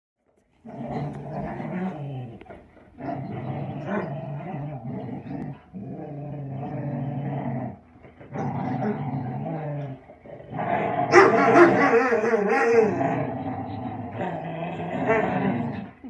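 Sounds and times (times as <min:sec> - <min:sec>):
dogs play-growling: 0:00.2 - 0:16.0.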